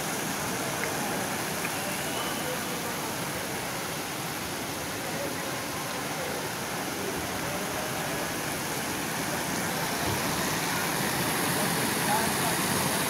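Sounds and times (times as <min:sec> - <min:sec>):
fountain streams splashing into pool: 0:00.0 - 0:13.0.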